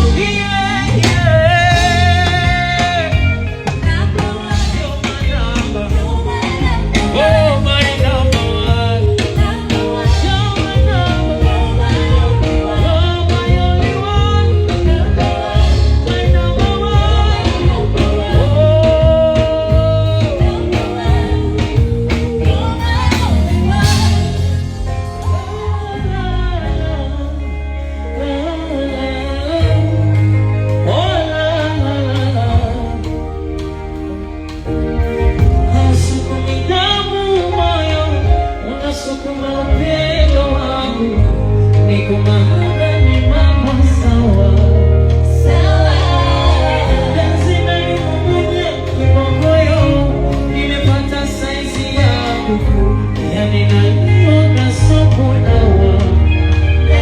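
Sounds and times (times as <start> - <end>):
man singing: 0.0 - 34.3, 35.1 - 57.0
backing track with bass and drums: 0.0 - 57.0.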